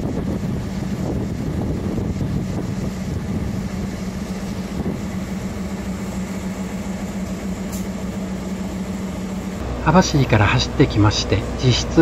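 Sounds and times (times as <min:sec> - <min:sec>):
locomotive engine idling: 0:00.0 - 0:12.0.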